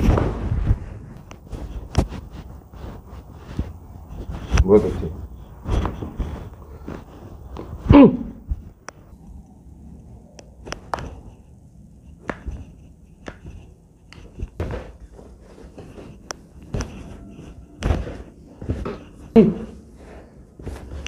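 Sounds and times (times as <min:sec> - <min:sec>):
dull thumps of body moving: 0:00.0 - 0:08.9, 0:12.1 - 0:21.0.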